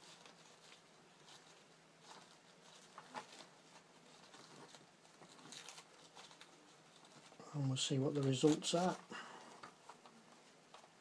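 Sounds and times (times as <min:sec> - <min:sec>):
soft clicks and crackles: 0:00.0 - 0:07.4, 0:08.0 - 0:11.0
tape peeling slowly: 0:00.0 - 0:07.4, 0:08.0 - 0:11.0
tissue paper rustling and crinkling: 0:00.0 - 0:11.0.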